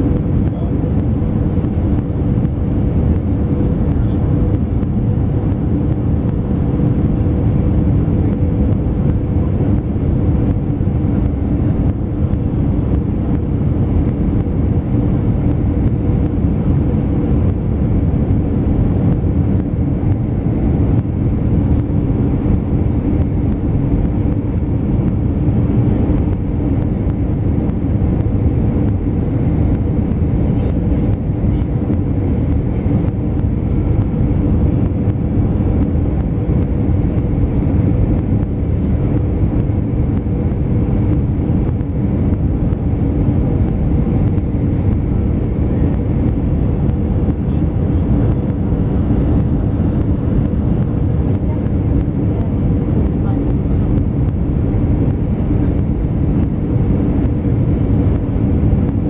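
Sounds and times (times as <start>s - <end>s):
airplane cabin drone: 0.0s - 59.0s
low hum: 0.0s - 59.0s.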